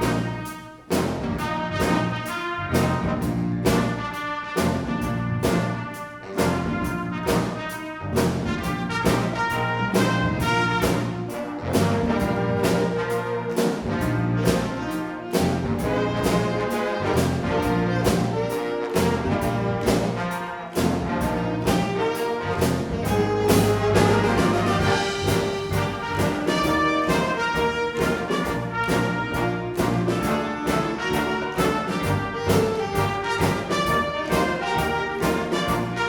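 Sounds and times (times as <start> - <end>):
jazz big band playing: 0.0 - 36.0.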